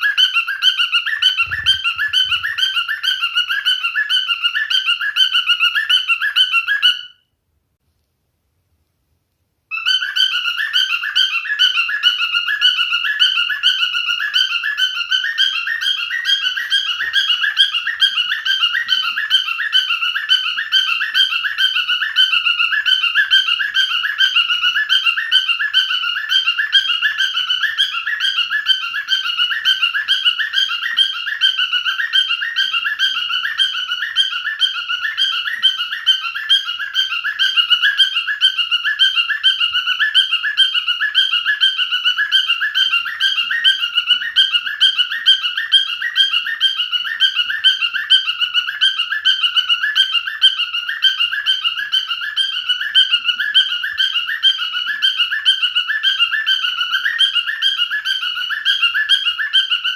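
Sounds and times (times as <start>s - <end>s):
cockatiel chirping and whistling: 0.0s - 7.2s, 9.7s - 59.9s.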